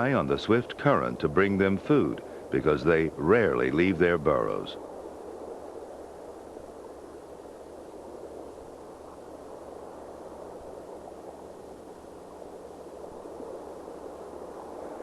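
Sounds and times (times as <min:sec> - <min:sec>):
faint low hum: 0:00.0 - 0:15.0
soft rushing noise: 0:00.0 - 0:15.0.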